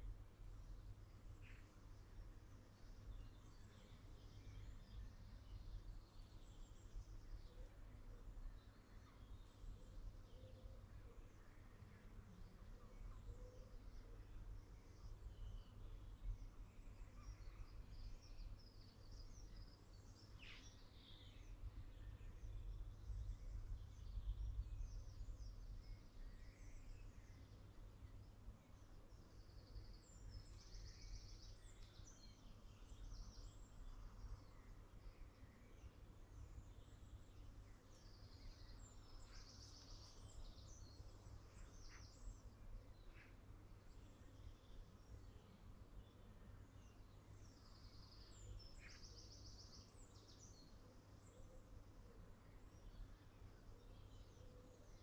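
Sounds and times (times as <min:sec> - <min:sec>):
faint songbird song: 0:00.0 - 0:55.0
small birds chirping: 0:00.0 - 0:55.0.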